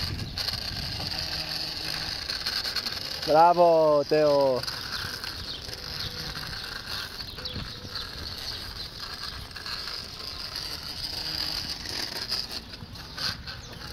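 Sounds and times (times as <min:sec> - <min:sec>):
bicycle freewheel ticking: 0:00.0 - 0:13.9
outdoor background noise: 0:00.0 - 0:13.9.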